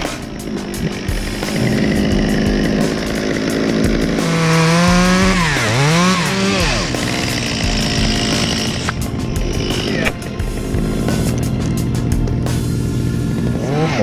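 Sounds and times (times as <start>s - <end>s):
chainsaw running at high revs: 0.0s - 14.0s.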